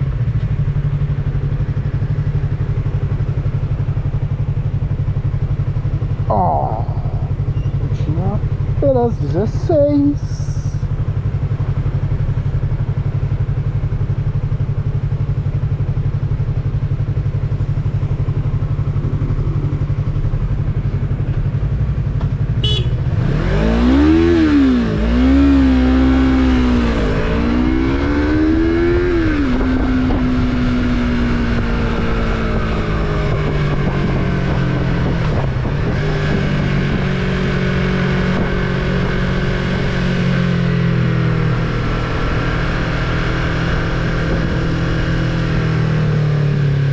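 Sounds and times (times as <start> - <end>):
motorcycle engine running and revving: 0.0 - 46.9.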